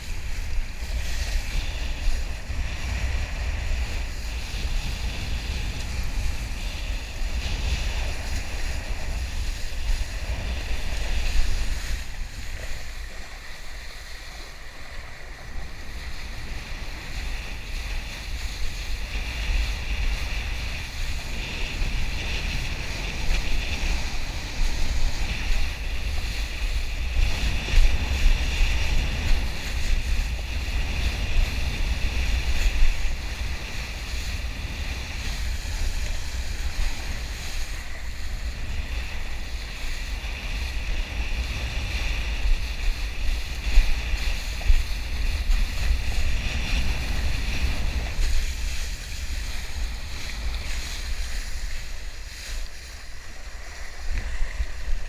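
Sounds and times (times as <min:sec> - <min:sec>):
kiteboard splashing across water: 0:00.0 - 0:55.0
wind buffeting microphone: 0:00.0 - 0:55.0.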